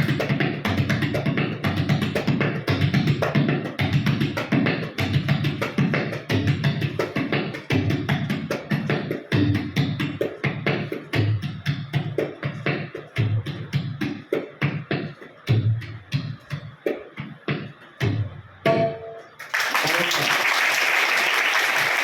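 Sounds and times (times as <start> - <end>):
tabla sharp strokes: 0.0 - 19.4.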